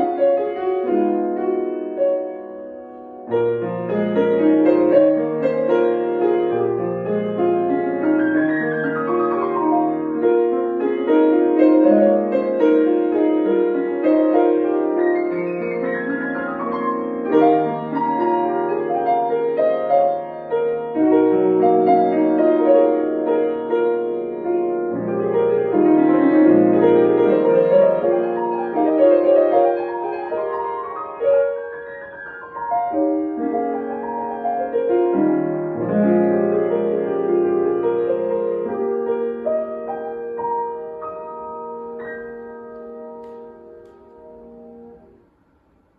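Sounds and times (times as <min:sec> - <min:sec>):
solo piano: 0:00.0 - 0:45.9.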